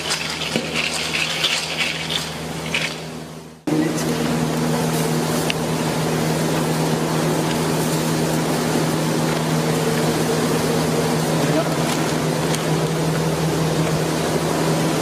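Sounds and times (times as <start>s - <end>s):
machine drone with low hum: 0.0s - 15.0s.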